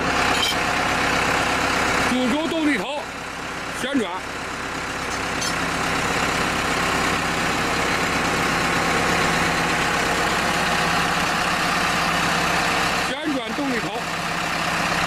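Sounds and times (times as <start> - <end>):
drilling rig engine hum: 0.0 - 15.0.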